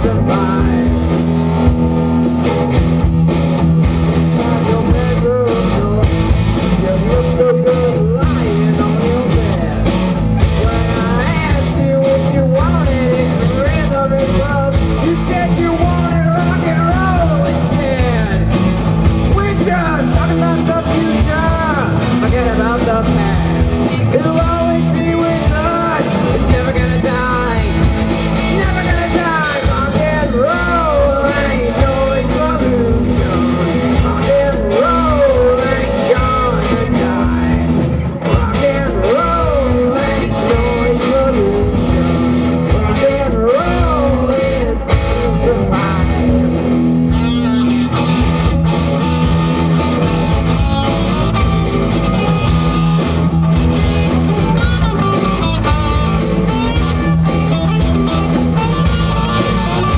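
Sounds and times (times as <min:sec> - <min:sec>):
person singing: 0:00.0 - 0:01.8, 0:04.1 - 0:59.9
rock band playing: 0:00.0 - 0:59.9.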